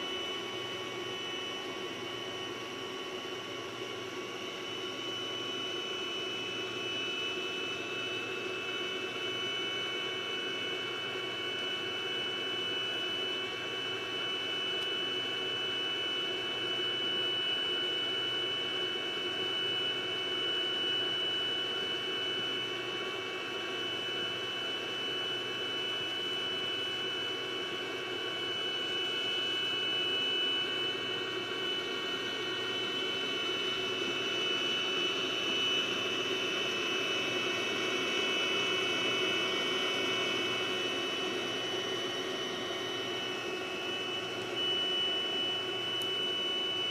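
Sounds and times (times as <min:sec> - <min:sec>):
high-pitched electrical whine: 0:00.0 - 0:46.9.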